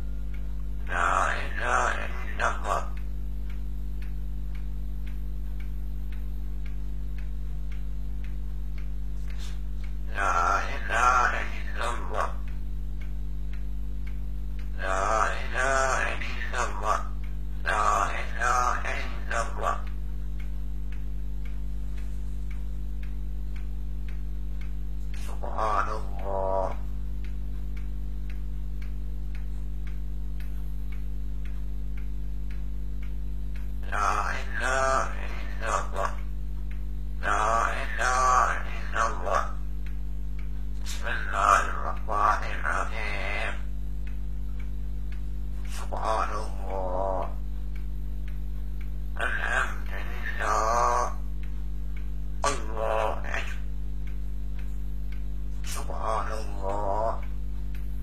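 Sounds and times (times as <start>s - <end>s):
faint regular ticks: 0.0s - 58.0s
low electrical hum: 0.0s - 58.0s.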